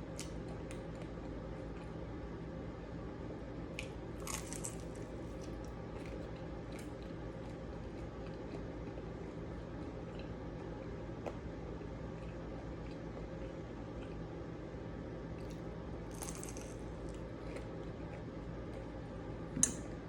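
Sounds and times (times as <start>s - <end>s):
steady low hum: 0.0s - 20.0s
chewing crunchy food: 0.1s - 2.1s, 3.7s - 14.5s, 15.4s - 20.0s.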